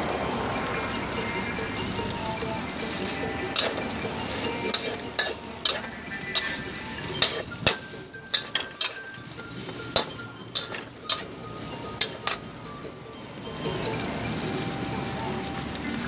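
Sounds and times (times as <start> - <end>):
food sizzling: 0.0 - 16.0
metal spatula scraping a wok: 0.2 - 13.8.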